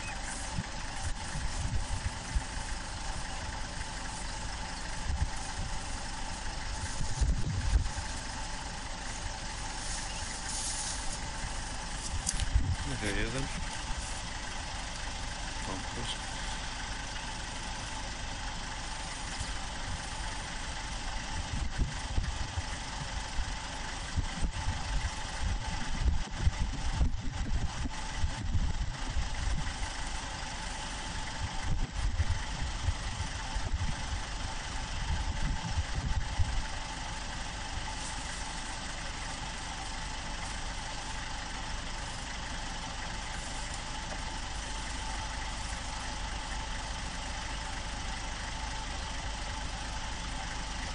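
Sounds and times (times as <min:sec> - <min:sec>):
vehicle engine idling: 0:00.0 - 0:50.9.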